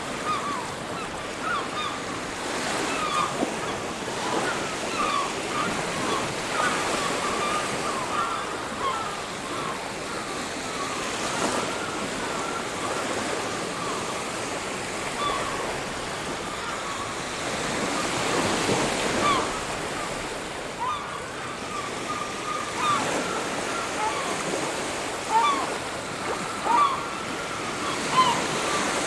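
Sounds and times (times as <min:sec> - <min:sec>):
ocean waves on a beach: 0:00.0 - 0:29.0.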